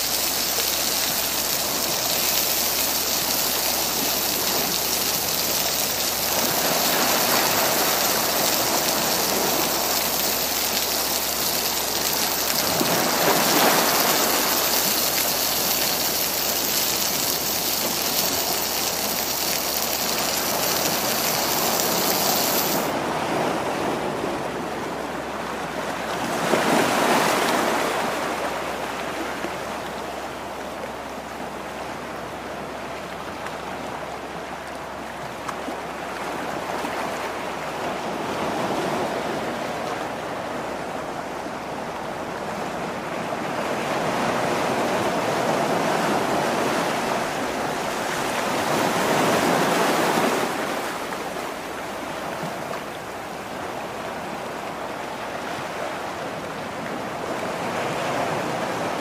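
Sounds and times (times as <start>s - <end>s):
surf washing against rocky shore: 0.0s - 59.0s.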